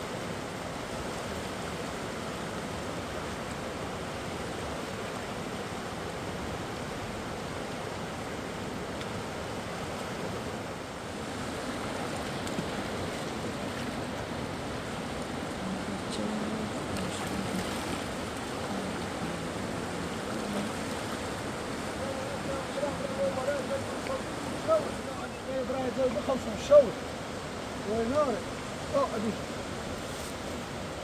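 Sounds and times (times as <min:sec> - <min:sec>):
river flowing: 0:00.0 - 0:31.0.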